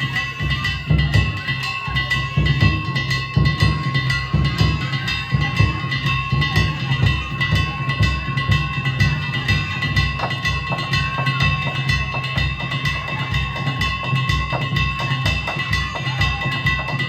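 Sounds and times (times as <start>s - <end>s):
big taiko drum beating: 0.0s - 17.0s
hand gongs ringing: 0.0s - 17.0s.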